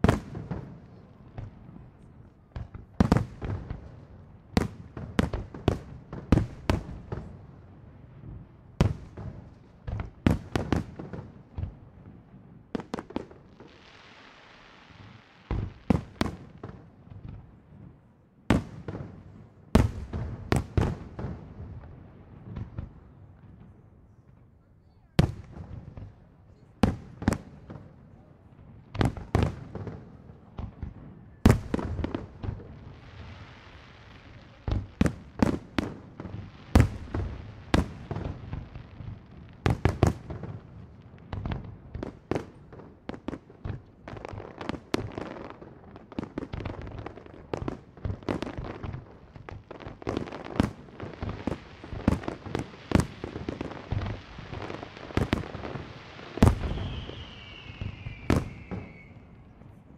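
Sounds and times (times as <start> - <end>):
fireworks bursting with sharp bangs: 0.0 - 59.9.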